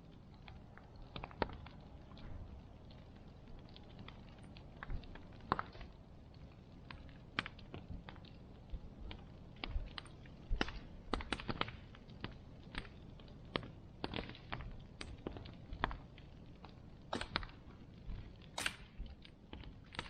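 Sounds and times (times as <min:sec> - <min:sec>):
bonfire crackling and popping: 0:00.0 - 0:20.0
low rumble of burning fire: 0:00.0 - 0:20.0.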